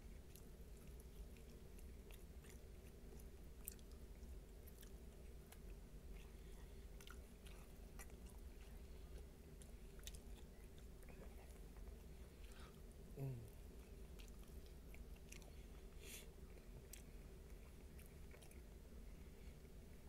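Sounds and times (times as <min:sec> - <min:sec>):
man chewing: 0:00.2 - 0:12.9, 0:13.7 - 0:18.8.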